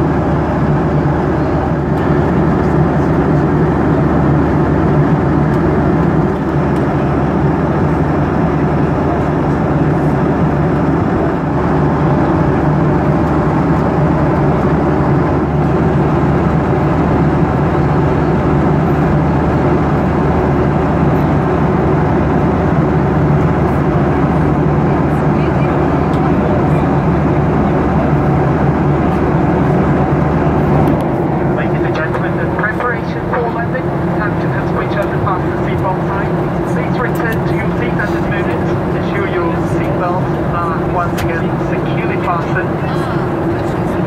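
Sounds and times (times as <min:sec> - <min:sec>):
airplane cabin engine rush: 0:00.0 - 0:44.0.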